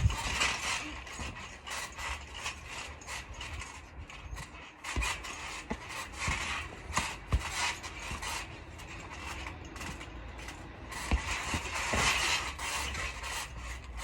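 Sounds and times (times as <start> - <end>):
trampoline springs creaking: 0.0 - 14.0.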